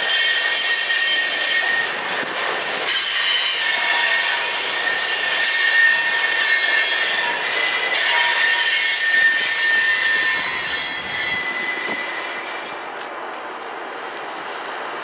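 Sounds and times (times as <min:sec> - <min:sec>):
train wheels squealing: 0:00.0 - 0:12.8
freight train rushing past: 0:00.0 - 0:15.0.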